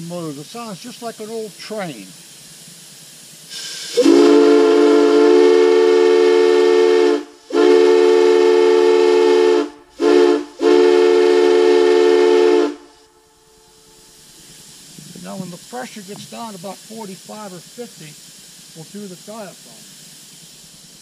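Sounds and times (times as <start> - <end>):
air hissing: 0.0 - 21.0.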